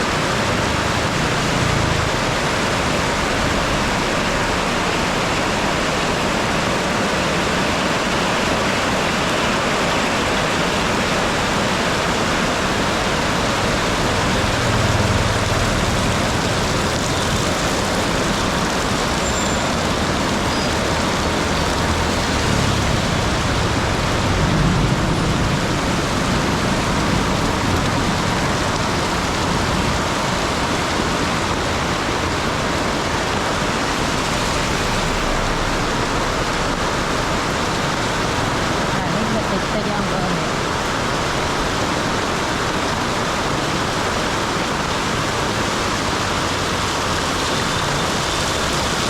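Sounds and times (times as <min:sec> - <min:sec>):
heavy rain falling: 0:00.0 - 0:49.0
road traffic rumbling: 0:00.0 - 0:49.0.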